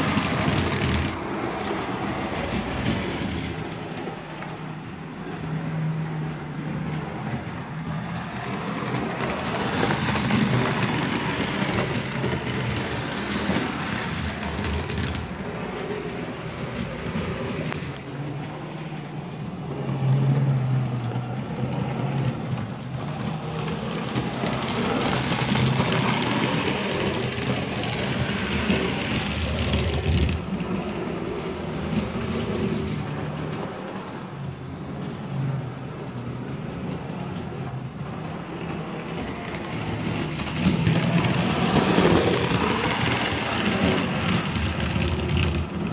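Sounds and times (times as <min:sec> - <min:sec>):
wheels rolling on rails: 0:00.0 - 0:45.9.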